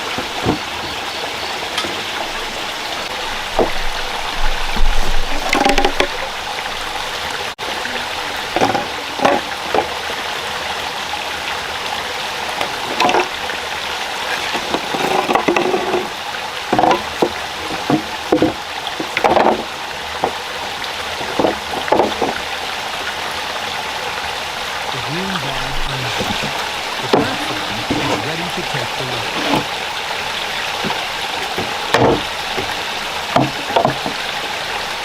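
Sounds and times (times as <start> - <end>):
stream rushing: 0.0 - 35.0.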